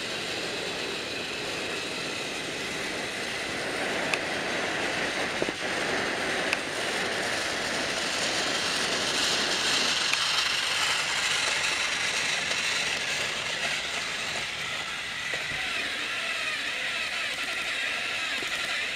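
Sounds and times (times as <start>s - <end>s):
toy train motor whirring: 0.0s - 18.9s
toy train wheels clattering: 0.0s - 18.9s.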